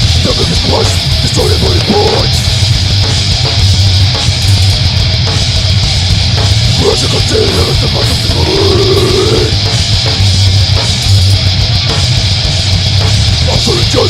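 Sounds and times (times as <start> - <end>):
heavy metal music: 0.0 - 14.0.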